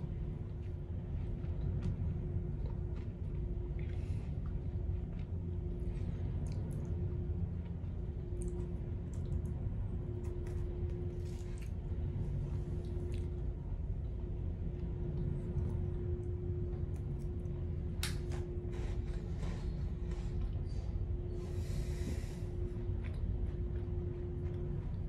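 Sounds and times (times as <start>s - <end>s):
constant hum: 0.0s - 25.0s.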